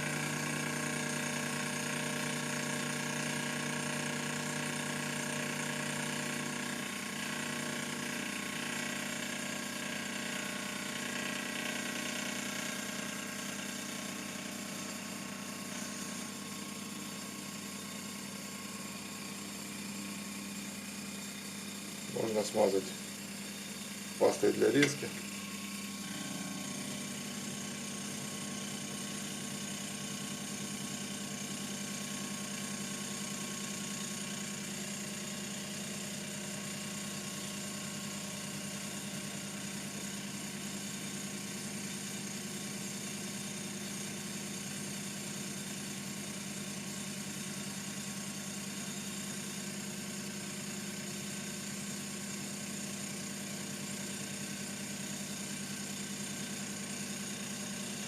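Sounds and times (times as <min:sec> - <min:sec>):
milling machine motor hum and whine: 0:00.0 - 0:58.0.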